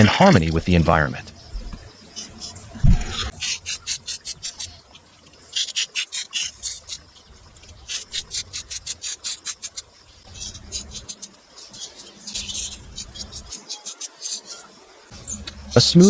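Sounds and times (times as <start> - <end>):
hand tool scraping strokes: 0.0 - 0.9, 2.2 - 4.7, 5.4 - 14.8.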